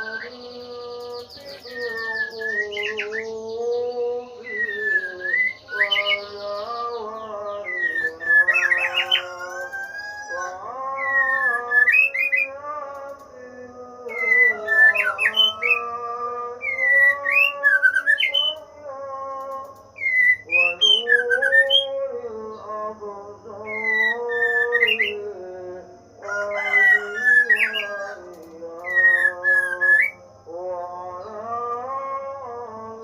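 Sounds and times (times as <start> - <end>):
songbird chirping and whistling: 0.0 - 13.4, 14.0 - 22.9, 23.5 - 25.6, 26.2 - 32.0.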